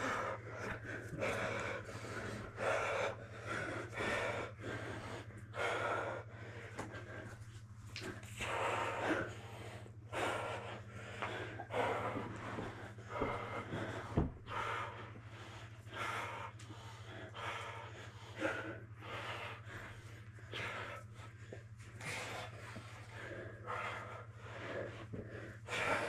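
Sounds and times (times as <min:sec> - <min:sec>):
people breathing hard: 0:00.0 - 0:26.0
steady low hum: 0:00.0 - 0:26.0.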